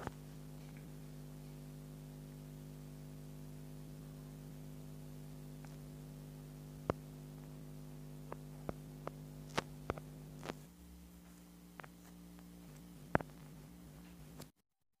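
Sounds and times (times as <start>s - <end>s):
low electrical hum: 0.0s - 14.5s.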